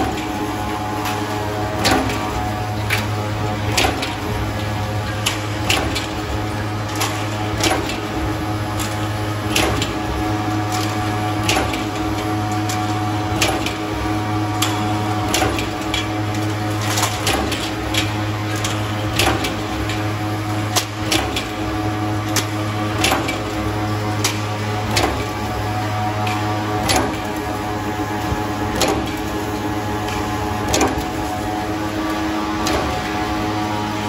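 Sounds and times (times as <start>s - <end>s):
machine hum: 0.0s - 34.0s.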